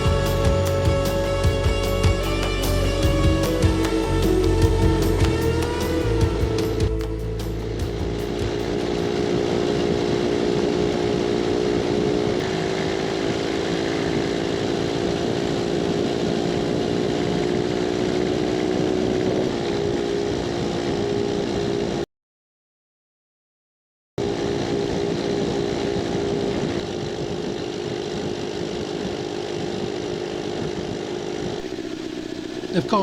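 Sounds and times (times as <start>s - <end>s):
motorcycle engine running: 0.0s - 22.0s, 24.2s - 33.0s.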